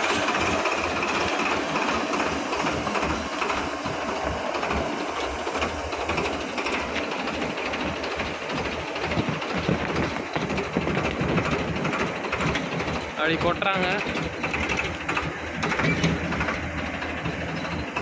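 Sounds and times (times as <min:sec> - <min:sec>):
defibering machinery clattering: 0:00.0 - 0:18.0
tractor engine: 0:00.0 - 0:18.0.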